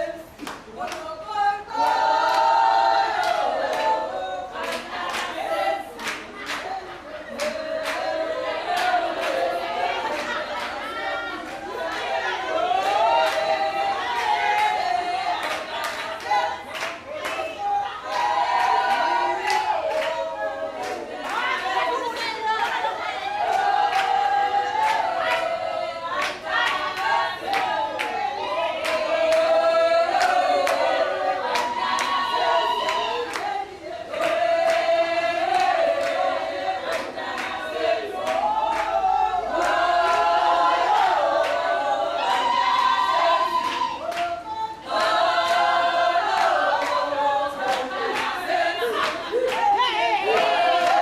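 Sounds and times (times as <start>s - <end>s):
women singing together: 0.0s - 51.0s.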